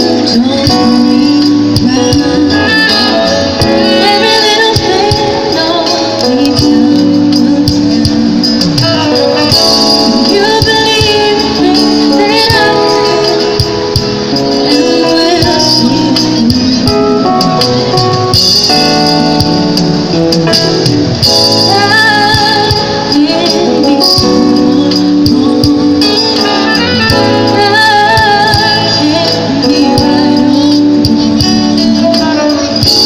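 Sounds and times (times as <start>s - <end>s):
woman singing: 0.0s - 18.0s, 21.4s - 33.0s
guitar: 0.0s - 33.0s
keyboard: 0.0s - 33.0s.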